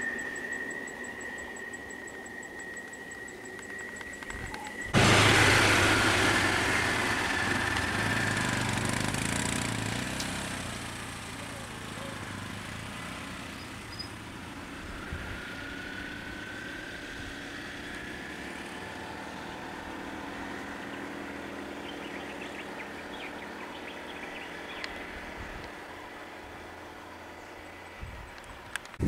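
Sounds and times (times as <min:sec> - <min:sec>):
motorcycle idling and pulling away: 0:00.0 - 0:29.0
truck idling and pulling away: 0:00.0 - 0:29.0.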